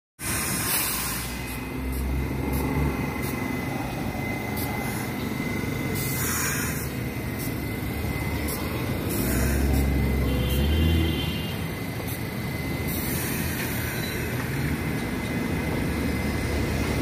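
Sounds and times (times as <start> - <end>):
thin high tone: 0.2 - 16.4
train rumbling on steel track: 0.2 - 17.0.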